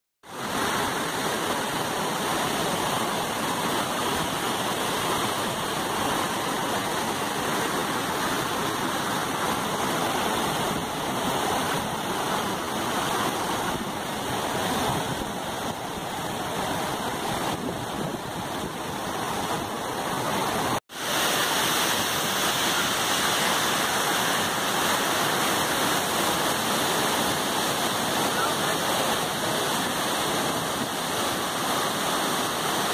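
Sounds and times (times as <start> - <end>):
waterfall rushing: 0.3 - 32.9.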